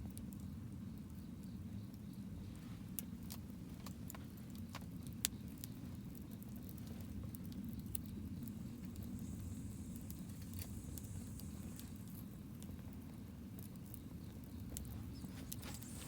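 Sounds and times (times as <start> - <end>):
campfire crackling: 1.9 - 16.0.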